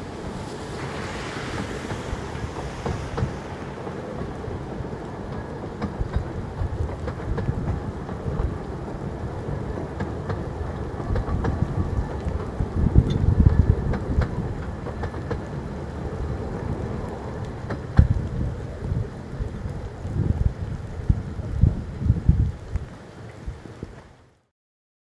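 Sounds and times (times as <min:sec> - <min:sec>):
train coaches rumbling past: 0:00.0 - 0:23.7
heavy rain: 0:00.0 - 0:24.5
wheels clicking on track: 0:01.0 - 0:24.0.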